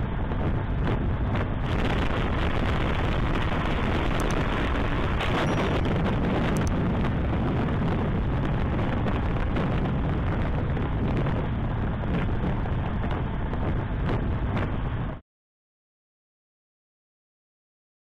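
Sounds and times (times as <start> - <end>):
road noise: 0.0 - 15.2
wind buffeting microphone: 0.0 - 15.2.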